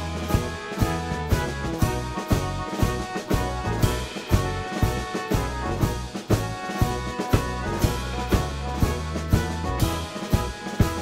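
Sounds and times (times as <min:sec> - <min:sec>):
drums steady beat: 0:00.0 - 0:11.0
held instrumental notes: 0:00.0 - 0:11.0.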